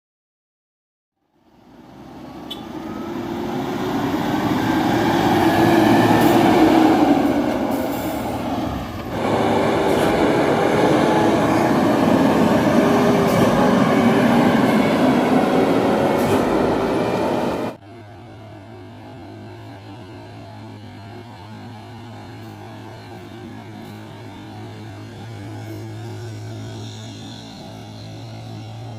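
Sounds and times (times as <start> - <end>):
dump truck diesel engine passing: 1.4 - 28.9.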